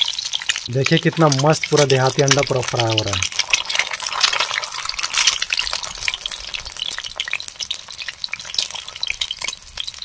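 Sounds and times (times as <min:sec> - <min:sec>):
eggs sizzling in hot oil: 0:00.0 - 0:10.0.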